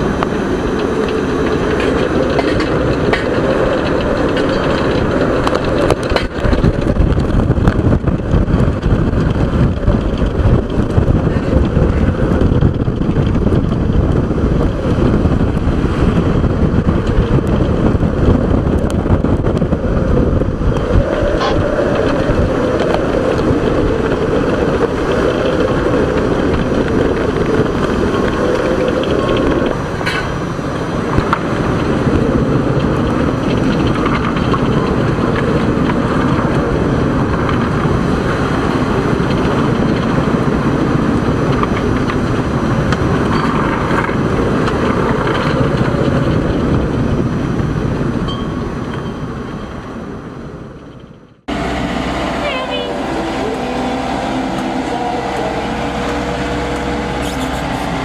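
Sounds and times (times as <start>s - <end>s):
waves breaking along hull: 0.0s - 58.0s
wind buffeting microphone: 0.0s - 58.0s.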